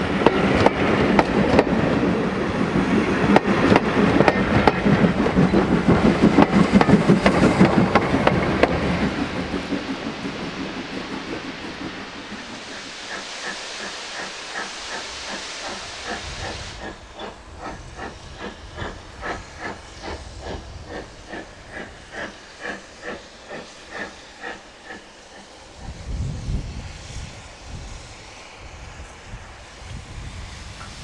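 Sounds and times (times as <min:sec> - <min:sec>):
steam hiss: 0:00.0 - 0:31.0
steam locomotive exhaust beats: 0:00.0 - 0:31.0.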